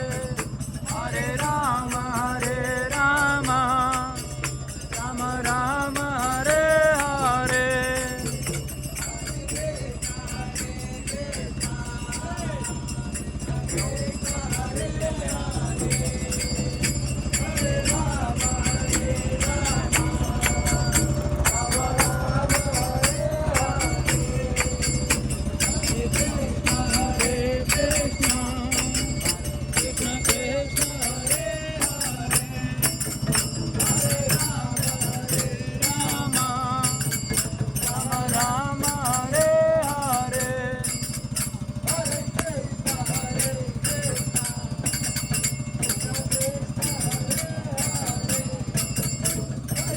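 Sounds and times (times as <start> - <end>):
jingling percussion: 0.0 - 49.9
wavering melody: 0.0 - 49.9.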